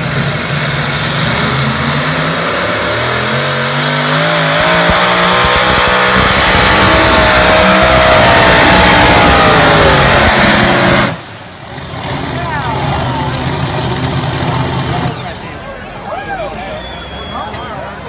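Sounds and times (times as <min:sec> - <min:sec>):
tractor engine revving: 0:00.0 - 0:15.6.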